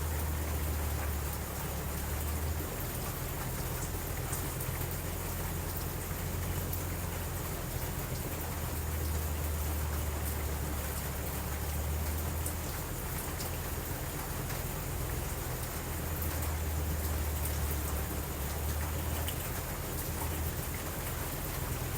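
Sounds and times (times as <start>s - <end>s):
rain falling: 0.0s - 21.9s.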